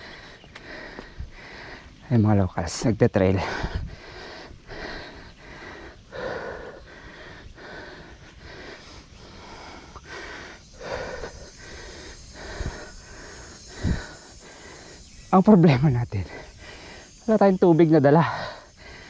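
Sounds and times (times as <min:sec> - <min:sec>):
person breathing heavily: 0:00.0 - 0:02.1, 0:03.3 - 0:17.3, 0:18.2 - 0:19.0.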